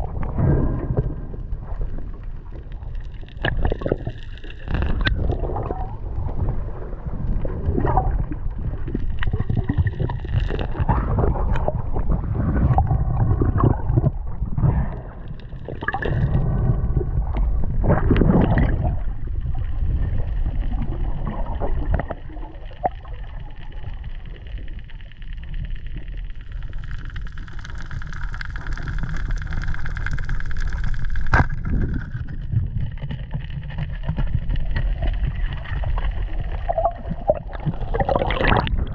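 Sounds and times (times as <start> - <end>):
muffled underwater rumble and gurgling: 0.0 - 38.9.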